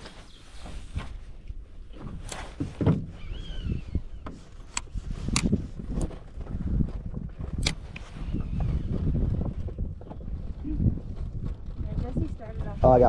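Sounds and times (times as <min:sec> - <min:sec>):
low rumble of wind: 0:00.0 - 0:13.0
water around boat: 0:00.0 - 0:13.0.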